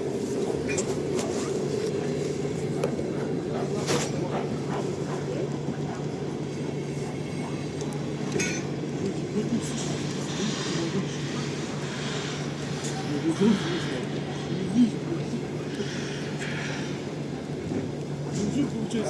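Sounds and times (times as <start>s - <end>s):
train rumbling hum: 0.0s - 19.0s.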